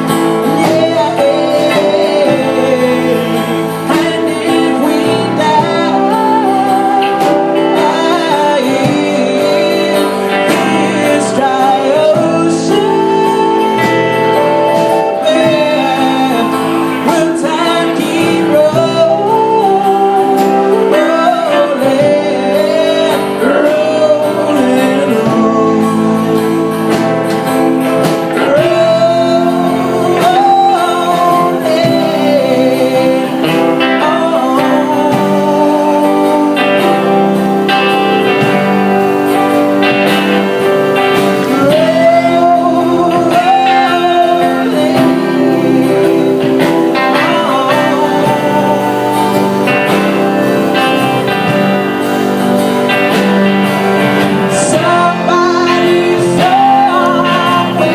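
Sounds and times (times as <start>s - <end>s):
person singing: 0.0s - 57.9s
strummed acoustic guitar: 0.0s - 57.9s.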